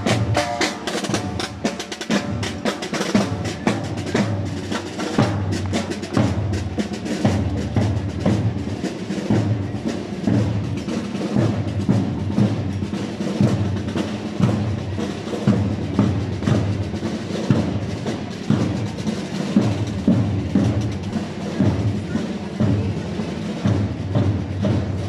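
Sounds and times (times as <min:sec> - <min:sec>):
marching drums: 0:00.0 - 0:25.0.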